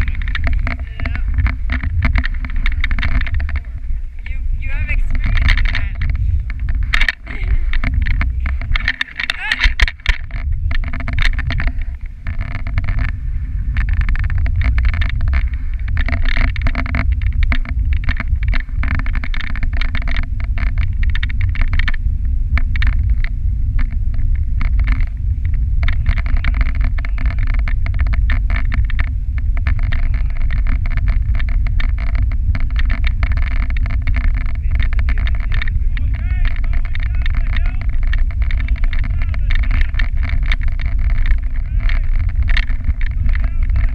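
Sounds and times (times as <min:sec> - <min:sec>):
knocks and rattles over bumps: 0:00.0 - 0:43.9
sled rumbling on snow: 0:00.0 - 0:43.9
wind buffeting microphone: 0:00.0 - 0:43.9.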